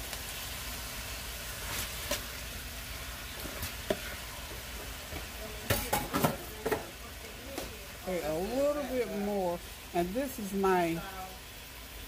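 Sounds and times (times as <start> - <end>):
pans sizzling: 0.0 - 12.0.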